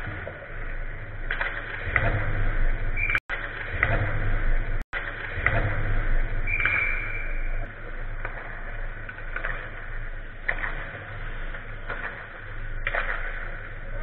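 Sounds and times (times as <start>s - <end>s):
hollow rink rumble: 0.0s - 14.0s
hockey sticks clattering: 1.3s - 4.2s, 5.0s - 14.0s.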